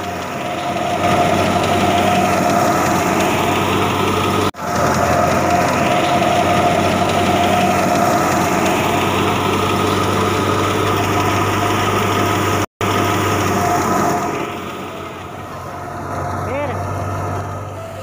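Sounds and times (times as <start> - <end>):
machine whine: 0.0 - 18.0
thresher machine drone: 0.0 - 18.0.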